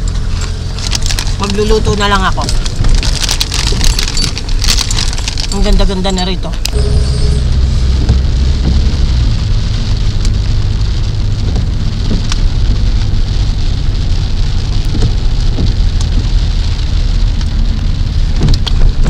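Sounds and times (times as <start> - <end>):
car driving on wet road: 0.0 - 19.0
rain on car windshield and roof: 0.0 - 19.0.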